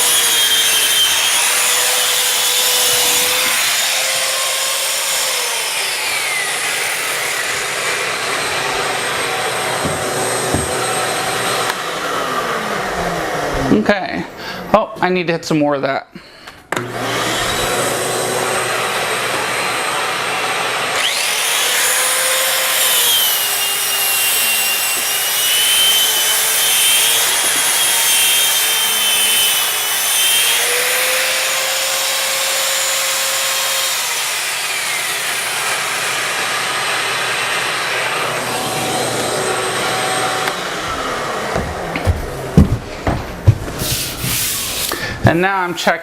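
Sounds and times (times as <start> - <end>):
electric sander whining: 0.0 - 13.8, 16.7 - 45.0.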